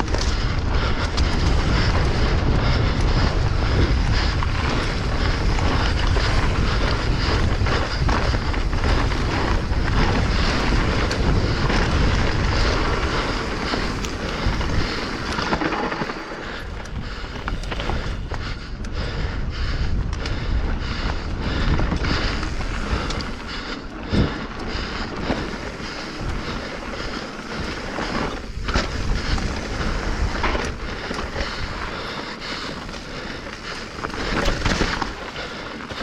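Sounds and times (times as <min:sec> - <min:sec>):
tyres rushing over dirt: 0:00.0 - 0:18.5, 0:22.0 - 0:36.0
bike chain and frame rattling: 0:00.0 - 0:36.0
wind buffeting microphone: 0:00.0 - 0:36.0.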